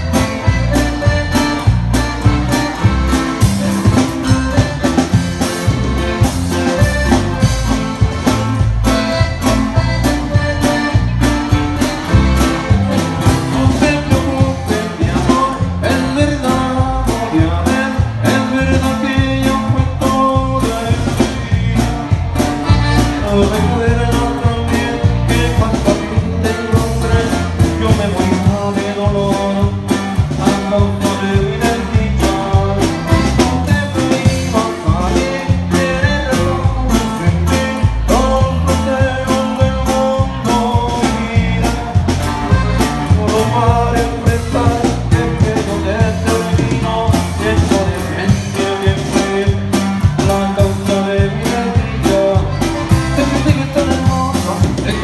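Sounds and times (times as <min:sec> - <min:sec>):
live band playing: 0:00.0 - 0:55.0
person singing: 0:09.1 - 0:55.0.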